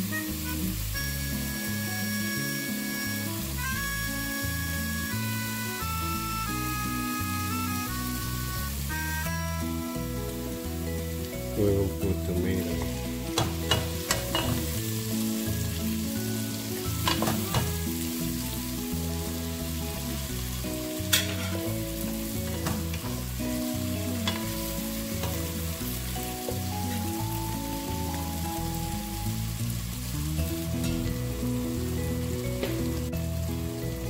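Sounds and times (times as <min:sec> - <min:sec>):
background music: 0:00.0 - 0:34.0
vegetables sizzling in hot oil: 0:00.0 - 0:34.0.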